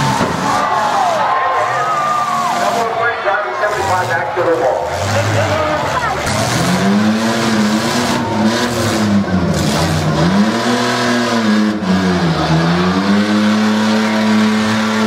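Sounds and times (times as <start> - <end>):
truck engines revving hard: 0.0 - 15.0.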